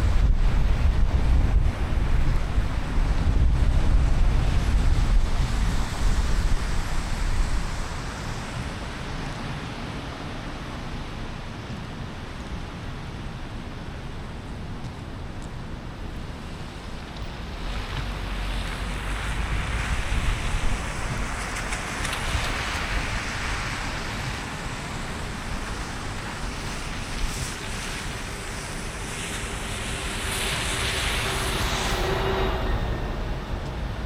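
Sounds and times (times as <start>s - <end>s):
car tyres hissing on wet road: 0.0s - 14.8s, 16.0s - 34.0s.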